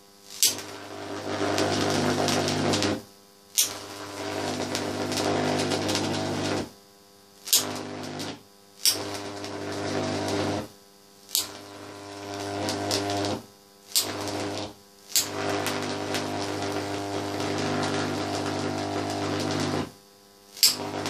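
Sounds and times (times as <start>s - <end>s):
electrical arc buzzing: 0.0s - 21.0s
arc cracking: 0.3s - 3.0s, 3.6s - 6.7s, 7.4s - 10.7s, 11.3s - 20.0s, 20.6s - 21.0s.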